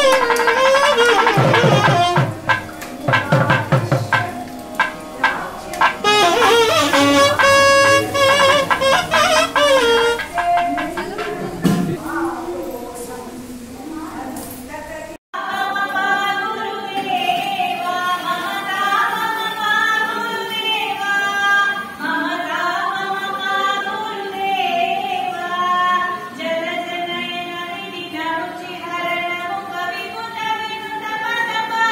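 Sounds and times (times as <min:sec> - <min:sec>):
women singing a hymn: 0:01.8 - 0:08.9, 0:09.8 - 0:13.3, 0:13.9 - 0:31.9.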